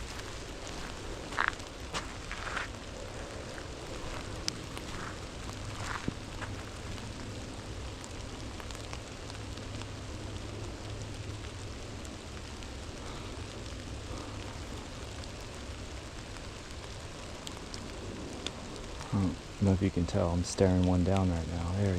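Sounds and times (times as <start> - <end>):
raindrops ticking close by: 0.0 - 21.9
steady rain falling: 0.0 - 21.9.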